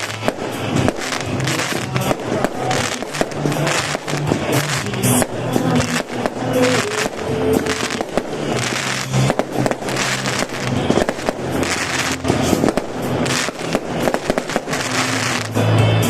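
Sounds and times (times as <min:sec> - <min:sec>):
fireworks bursting and crackling: 0:00.0 - 0:16.0
music over loudspeakers: 0:00.0 - 0:16.0.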